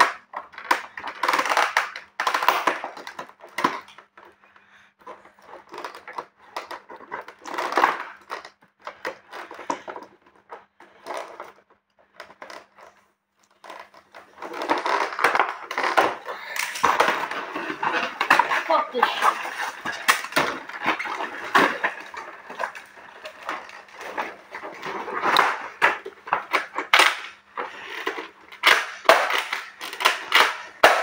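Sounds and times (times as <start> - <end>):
packaging rustling and scraping: 0.0 - 31.0
plastic clicks: 0.0 - 31.0.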